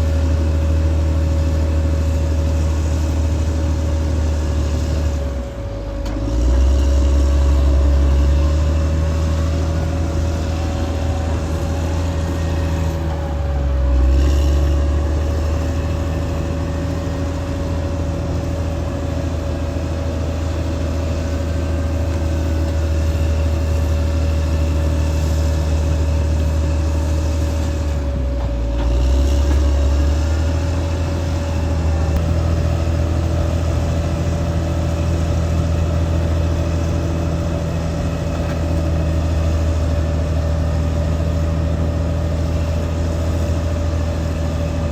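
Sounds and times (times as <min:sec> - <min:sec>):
bulldozer diesel engine with whine: 0:00.0 - 0:44.9.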